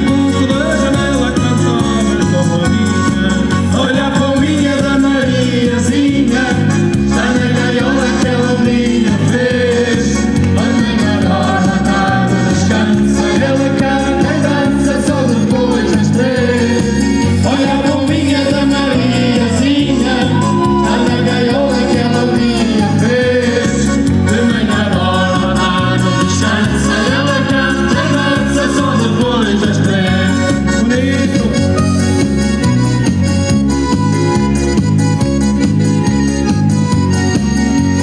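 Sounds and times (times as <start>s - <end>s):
person singing: 0.0s - 31.8s
dance band playing live: 0.0s - 38.0s.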